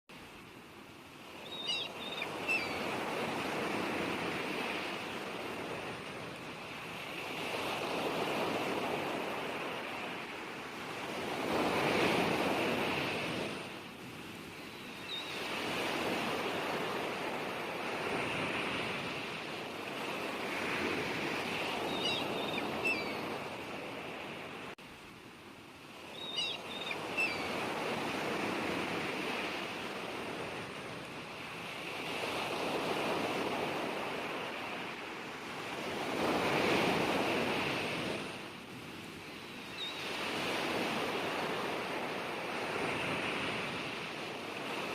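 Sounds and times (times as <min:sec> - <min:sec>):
sea waves washing onto shore: 0:00.1 - 0:44.9.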